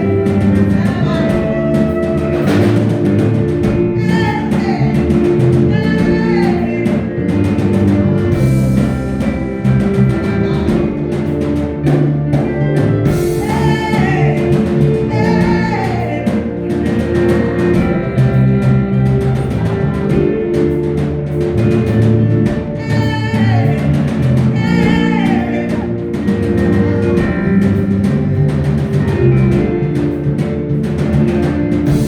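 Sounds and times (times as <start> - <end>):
band playing held chords: 0.0 - 32.0
steady drum beat: 0.0 - 32.0.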